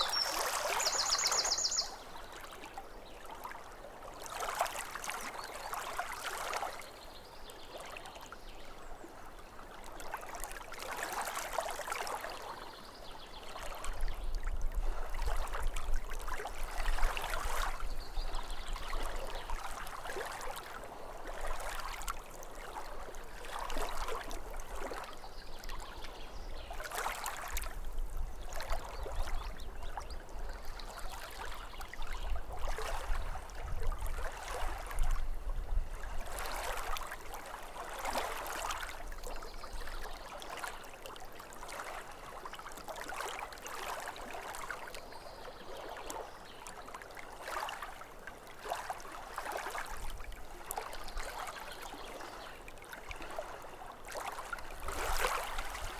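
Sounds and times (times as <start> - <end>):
small waves lapping at shore: 0.0 - 55.9.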